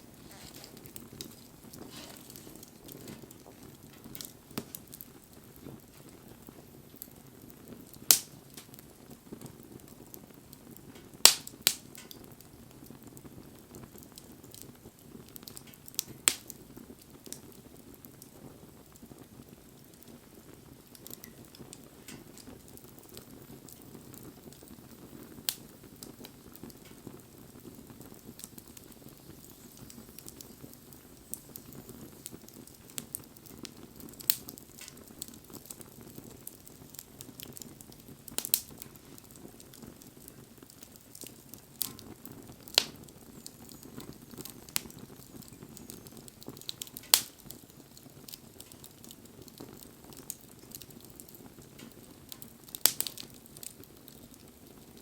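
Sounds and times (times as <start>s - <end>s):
campfire crackling: 0.0s - 55.0s
loud fire pops: 0.0s - 55.0s.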